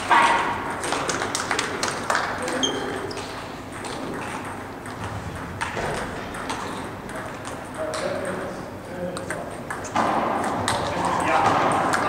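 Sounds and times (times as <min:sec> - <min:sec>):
table tennis balls clicking: 0:00.7 - 0:08.4, 0:09.0 - 0:12.0.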